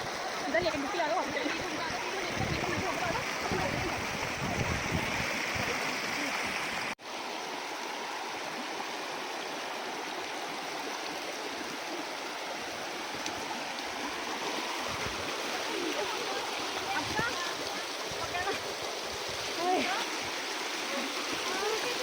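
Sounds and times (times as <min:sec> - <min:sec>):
stream flowing over rocks: 0:00.0 - 0:22.0.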